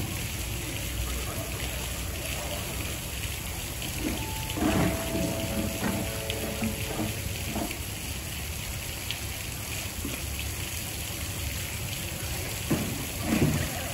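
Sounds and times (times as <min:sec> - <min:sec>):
running water: 0:00.0 - 0:13.9.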